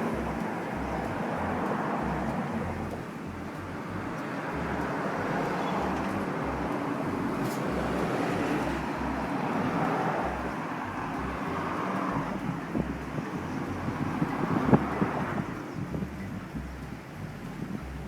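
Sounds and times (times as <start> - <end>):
outdoor rushing noise: 0.0 - 18.0
wind buffeting microphone: 0.0 - 18.0.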